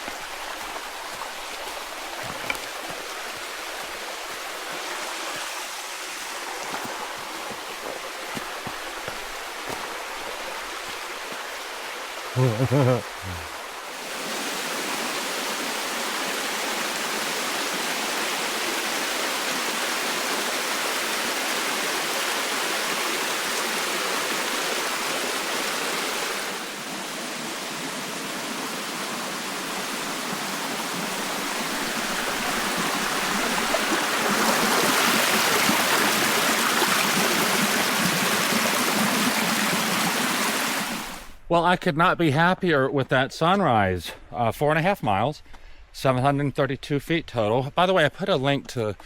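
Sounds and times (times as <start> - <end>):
creek rushing over rocks: 0.0 - 41.4.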